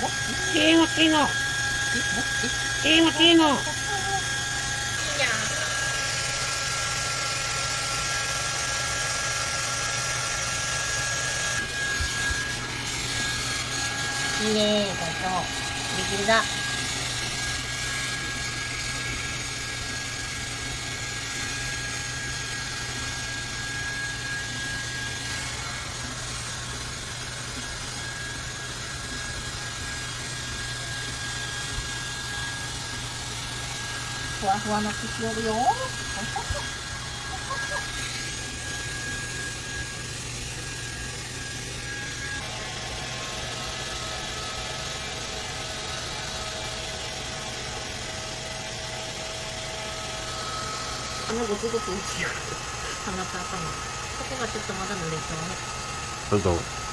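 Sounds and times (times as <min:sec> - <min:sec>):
hair dryer blowing: 0:00.0 - 0:56.9
thin whine: 0:00.0 - 0:56.9.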